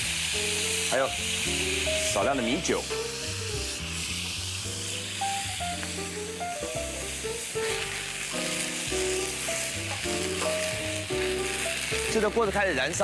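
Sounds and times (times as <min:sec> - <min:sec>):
sauce sizzling in hot pan: 0:00.0 - 0:13.0.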